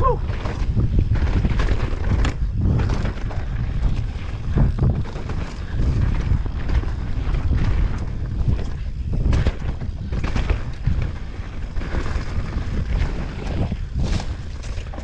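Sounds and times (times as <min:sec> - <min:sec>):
bike knocks and rattles: 0:00.0 - 0:15.0
wind buffeting microphone: 0:00.0 - 0:15.0.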